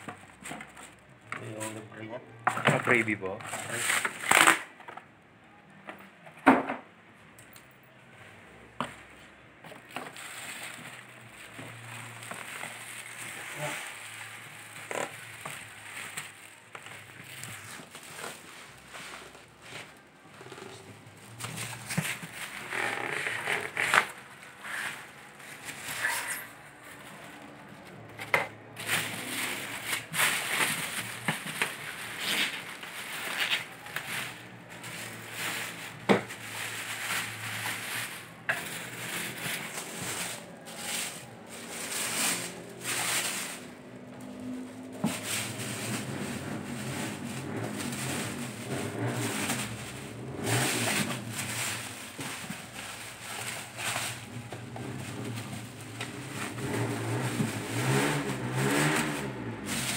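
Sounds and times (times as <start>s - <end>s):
plastic wrap rustling and crinkling: 0.0s - 5.1s, 8.6s - 59.9s.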